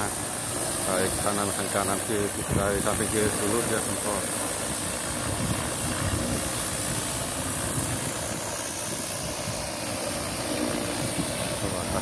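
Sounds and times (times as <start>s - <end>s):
high-pressure water jet hissing: 0.0s - 12.0s
motor running: 0.0s - 12.0s.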